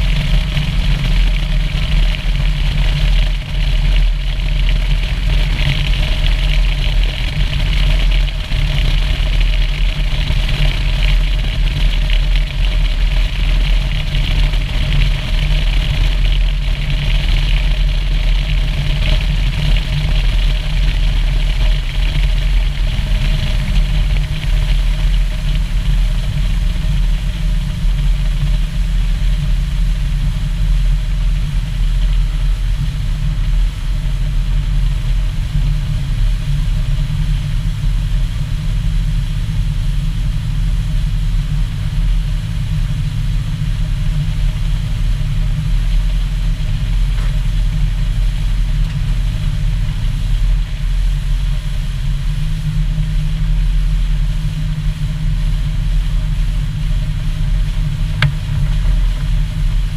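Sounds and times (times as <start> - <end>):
outboard motor running: 0.0 - 59.9
wind on microphone: 0.0 - 59.9.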